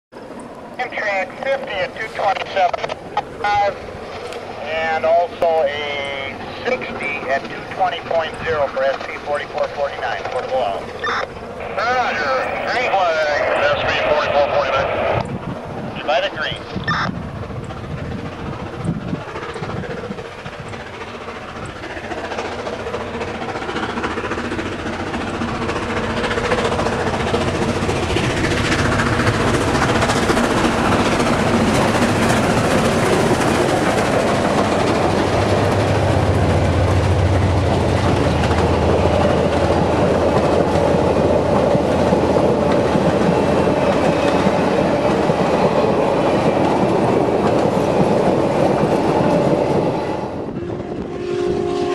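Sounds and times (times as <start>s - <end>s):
steam locomotive passing: 0.2s - 51.9s
train wheels rumbling on rail: 0.2s - 51.9s.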